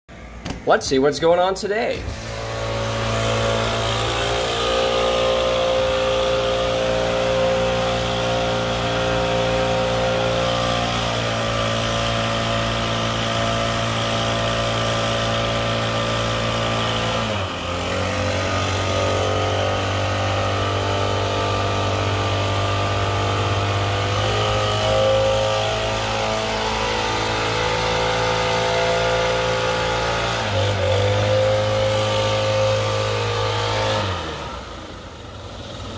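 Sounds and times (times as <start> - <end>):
leaf blower engine running: 1.9 - 35.9.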